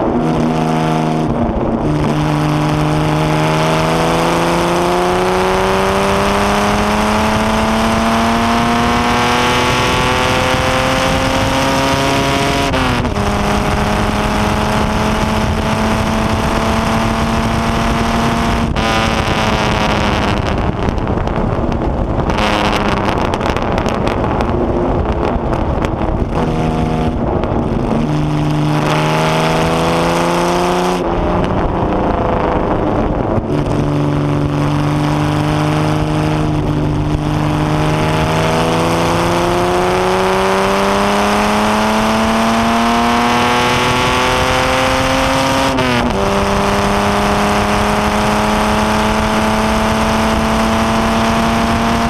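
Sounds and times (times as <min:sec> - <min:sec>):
racing car engine revving: 0:00.0 - 0:52.0
wind noise: 0:00.0 - 0:52.0.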